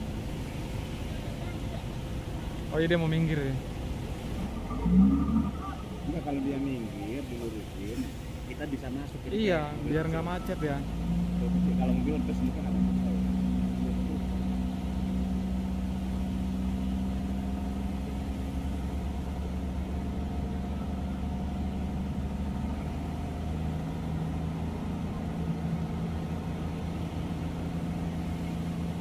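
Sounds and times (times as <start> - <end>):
truck diesel engines idling: 0.0 - 29.0.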